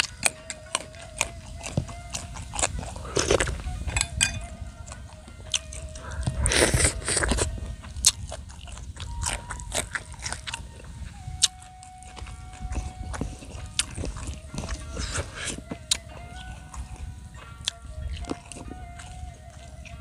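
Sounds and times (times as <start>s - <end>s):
crunchy food being eaten: 0.0s - 19.9s.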